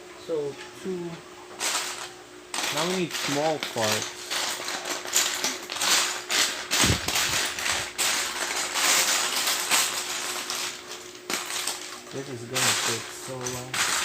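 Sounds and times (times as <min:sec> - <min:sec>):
plastic bricks rattling and clicking: 0:02.6 - 0:14.0.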